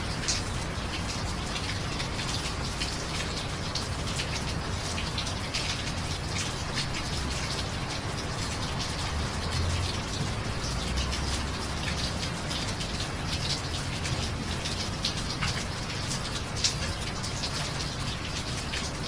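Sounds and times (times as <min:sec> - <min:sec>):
rain drops splattering: 0:00.0 - 0:19.0.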